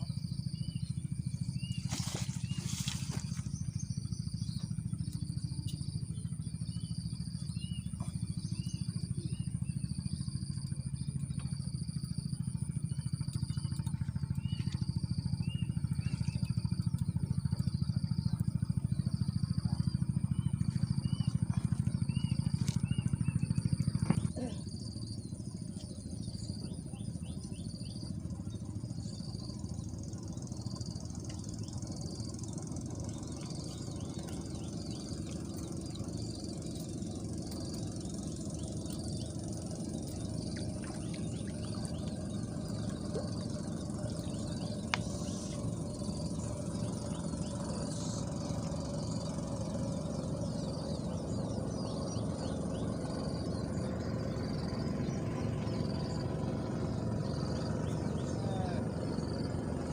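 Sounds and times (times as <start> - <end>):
low rumble: 0.0 - 11.1, 12.2 - 59.9
insect high-pitched trill: 0.0 - 59.9
insect short chirp: 0.0 - 59.9.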